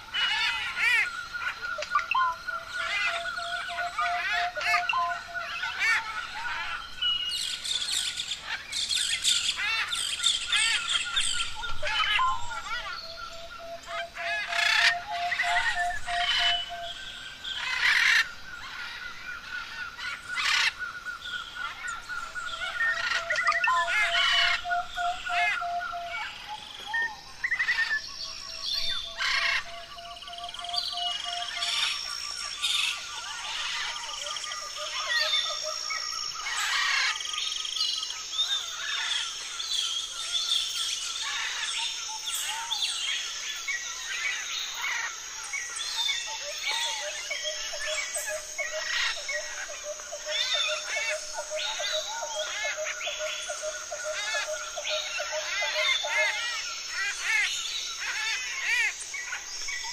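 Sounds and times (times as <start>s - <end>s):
birds calling and singing: 0.0s - 59.9s.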